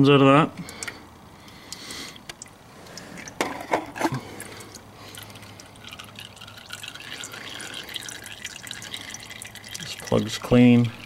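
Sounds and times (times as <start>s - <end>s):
oil dripping into pan: 0.6s - 11.0s.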